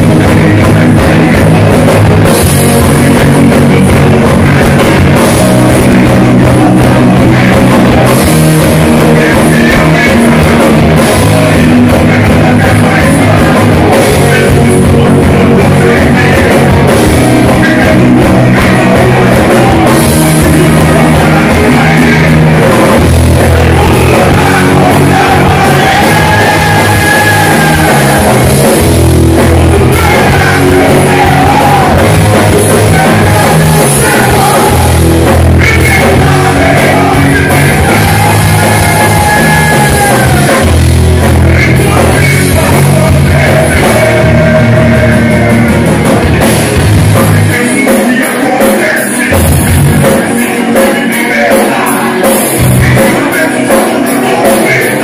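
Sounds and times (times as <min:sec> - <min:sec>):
bass guitar: 0:00.0 - 0:55.0
drums: 0:00.0 - 0:55.0
electric guitars: 0:00.0 - 0:55.0
man singing: 0:00.0 - 0:55.0.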